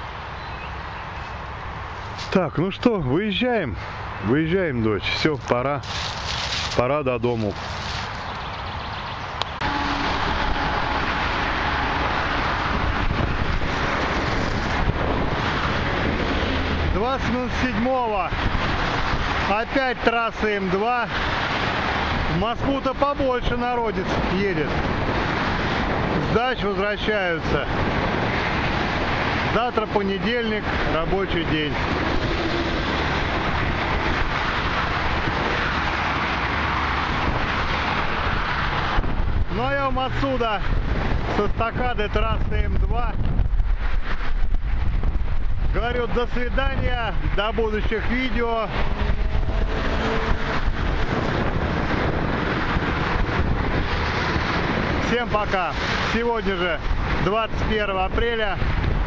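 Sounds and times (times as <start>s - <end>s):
heavy highway traffic: 0.0s - 59.0s
wind buffeting microphone: 0.0s - 59.0s.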